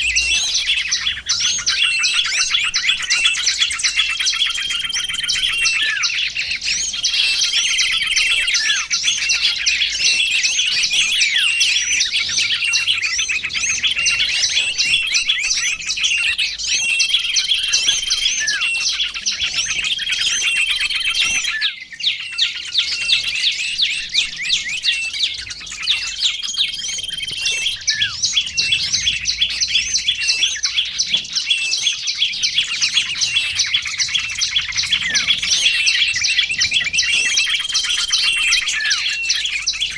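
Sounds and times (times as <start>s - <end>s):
songbirds twittering chorus: 0.0s - 39.9s.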